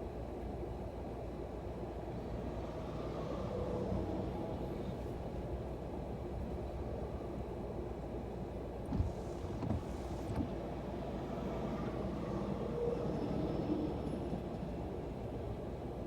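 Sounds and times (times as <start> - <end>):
low vehicle rumble: 2.0 - 16.0.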